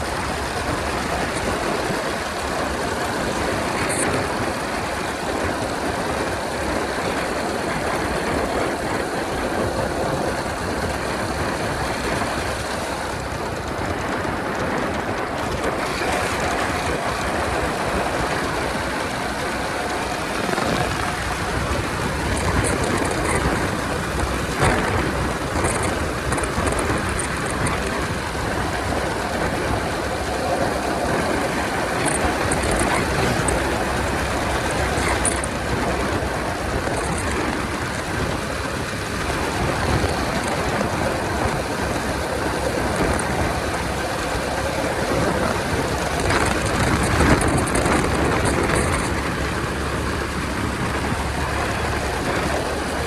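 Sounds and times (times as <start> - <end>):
wind and road noise: 0.0 - 53.0.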